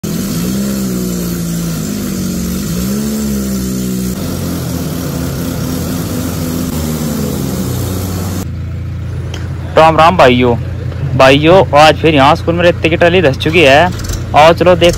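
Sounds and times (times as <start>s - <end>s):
diesel tractor engine labouring: 0.0s - 14.9s.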